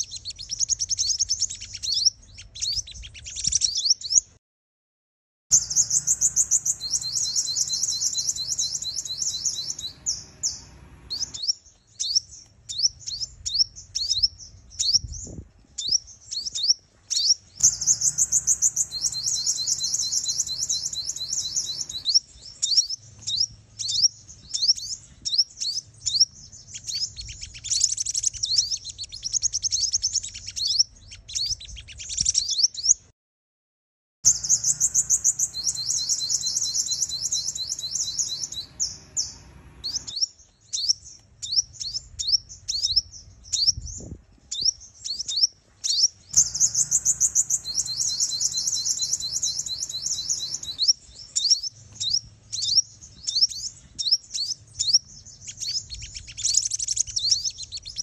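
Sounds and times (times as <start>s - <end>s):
high-pitched bird chirps and trills: 0.0s - 4.4s, 5.5s - 33.0s, 34.3s - 58.0s.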